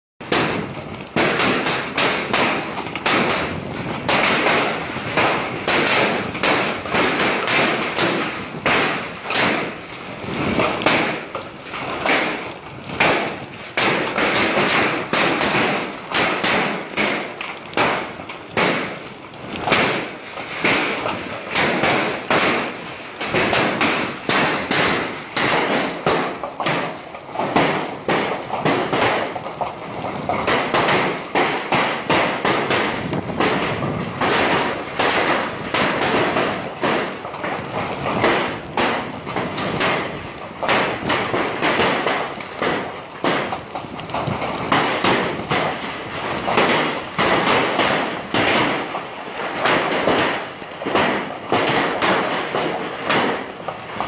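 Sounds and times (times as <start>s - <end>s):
hailstones thudding: 0.2s - 54.0s
hail hissing on ground: 0.4s - 54.0s.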